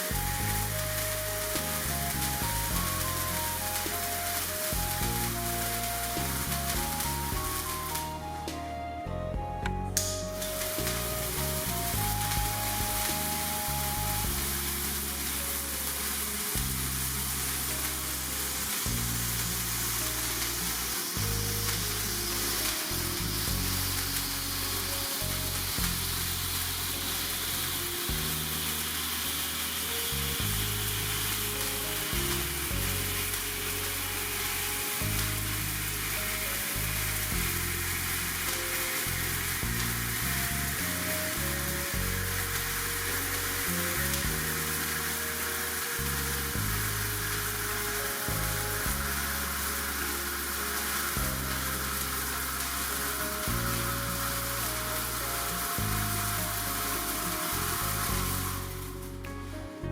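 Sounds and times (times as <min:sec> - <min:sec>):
sparkler candle fizzing: 0:00.0 - 0:59.2
background music with bass line: 0:00.0 - 0:59.9.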